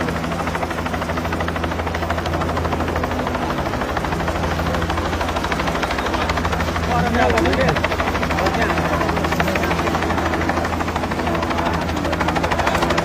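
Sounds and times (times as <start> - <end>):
helicopter rotor blades chopping: 0.0 - 13.0.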